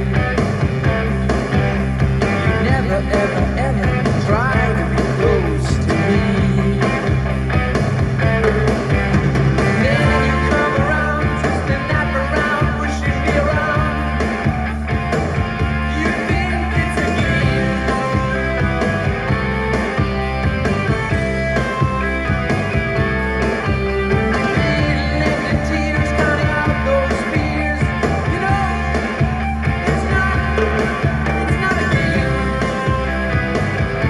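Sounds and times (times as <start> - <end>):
rock music through speakers: 0.0 - 34.0.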